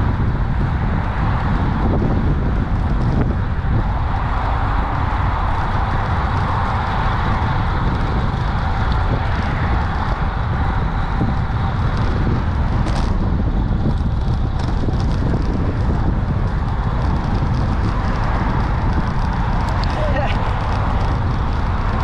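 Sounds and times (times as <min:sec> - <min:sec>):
road noise: 0:00.0 - 0:22.0
wind rush on microphone: 0:00.0 - 0:22.0.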